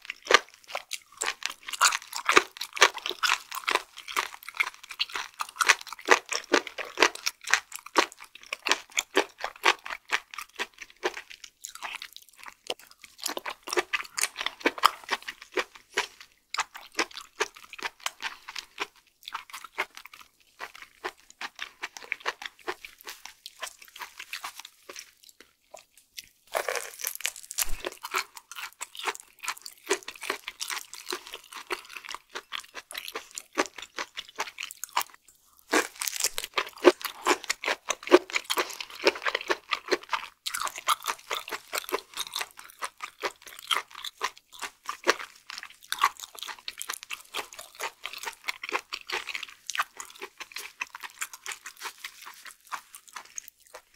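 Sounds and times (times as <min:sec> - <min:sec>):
chewing with wet mouth clicks: 0:00.0 - 0:53.9.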